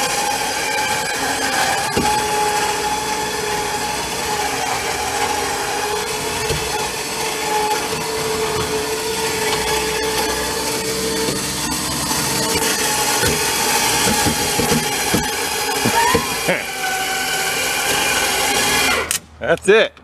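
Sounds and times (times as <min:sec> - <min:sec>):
electric winch motor whining: 0:00.0 - 0:19.2.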